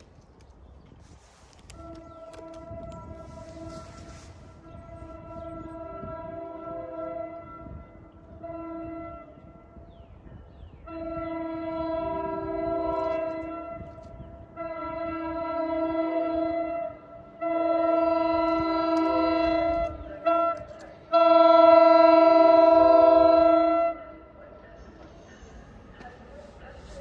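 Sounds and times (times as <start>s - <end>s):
train rumble: 0.0s - 27.0s
train horn blasts: 1.5s - 27.0s.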